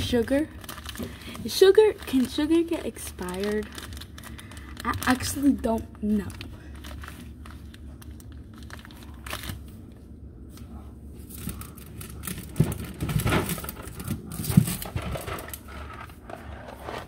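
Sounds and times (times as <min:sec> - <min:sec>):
packets crinkling and rustling: 0:00.0 - 0:10.0, 0:11.2 - 0:17.0.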